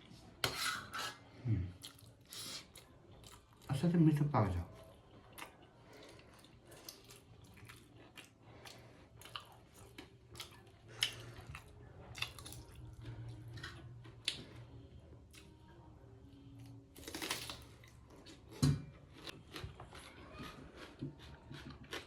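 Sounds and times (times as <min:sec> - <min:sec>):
person chewing food: 0:01.8 - 0:03.7, 0:04.8 - 0:15.7, 0:16.6 - 0:22.0.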